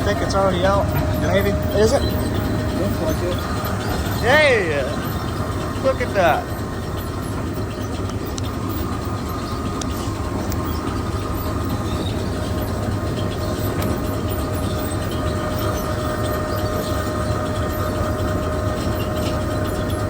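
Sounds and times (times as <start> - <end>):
heavy machinery rumbling: 0.0 - 20.0
machinery whine: 0.0 - 20.0.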